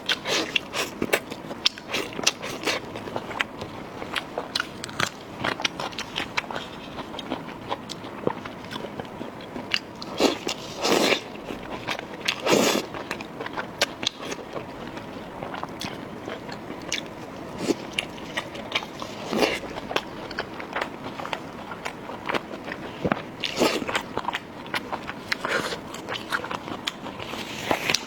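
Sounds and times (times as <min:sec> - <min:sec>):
person chewing crunchy food: 0:00.0 - 0:28.0.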